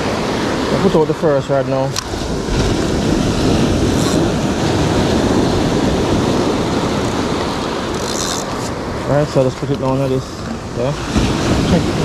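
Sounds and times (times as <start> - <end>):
surf washing up pebble beach: 0.0 - 12.0.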